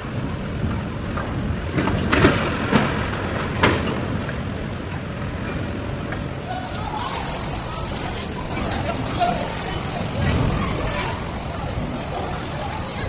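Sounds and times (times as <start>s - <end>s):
water pouring down building: 0.0s - 13.0s.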